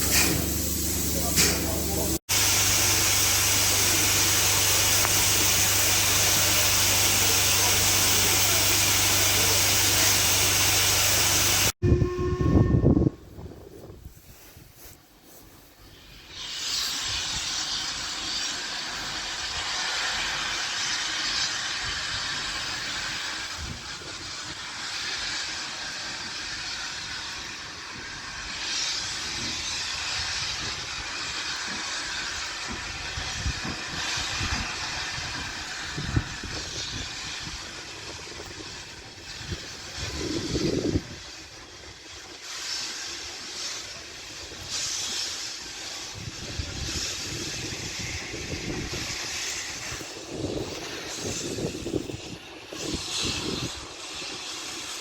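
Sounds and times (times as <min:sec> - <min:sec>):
steady train hiss: 0:00.0 - 0:11.8, 0:13.4 - 0:55.0.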